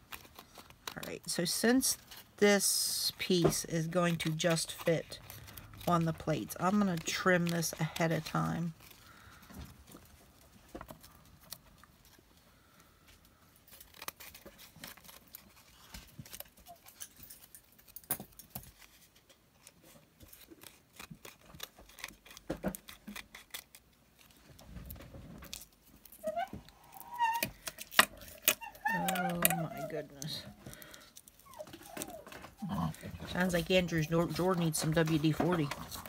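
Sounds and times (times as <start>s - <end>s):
paper rustling and clicking: 0.0s - 2.4s, 3.2s - 12.3s, 13.7s - 32.6s, 33.2s - 36.0s.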